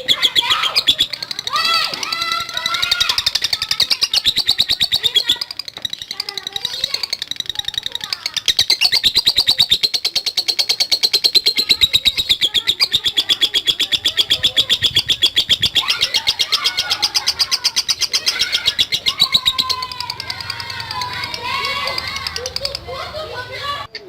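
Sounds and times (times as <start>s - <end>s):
lovebird chattering trill: 0.0s - 24.0s.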